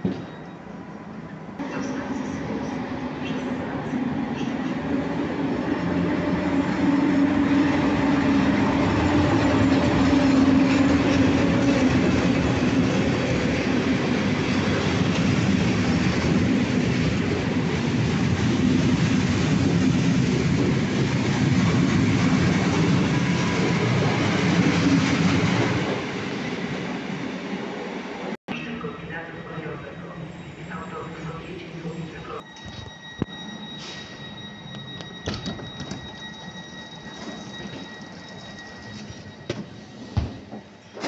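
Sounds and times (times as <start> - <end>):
train rumble and wheel clatter: 0.0 - 41.0.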